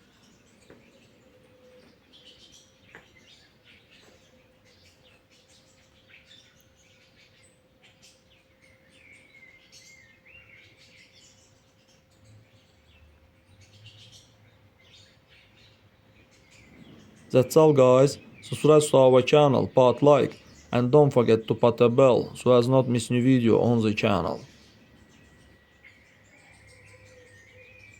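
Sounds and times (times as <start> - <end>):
faint birds chirping: 0.0 - 27.9.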